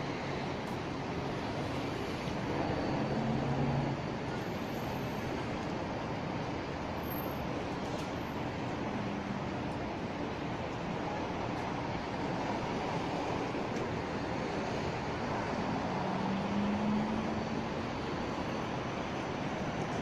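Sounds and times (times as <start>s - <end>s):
tram and street noise: 0.0s - 20.0s.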